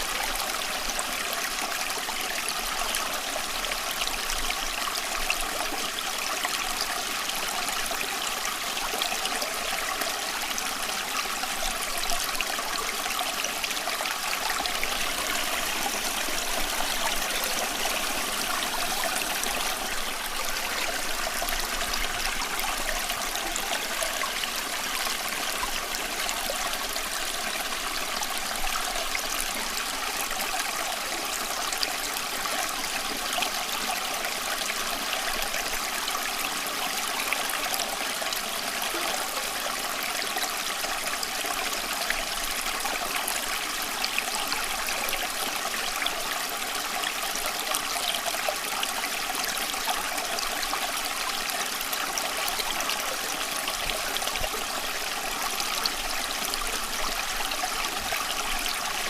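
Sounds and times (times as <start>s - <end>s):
running water flowing: 0.0s - 59.0s.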